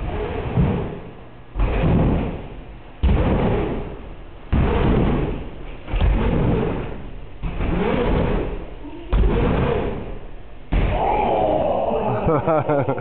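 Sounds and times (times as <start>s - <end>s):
bike tyres thudding on a ramp: 0.0s - 11.3s.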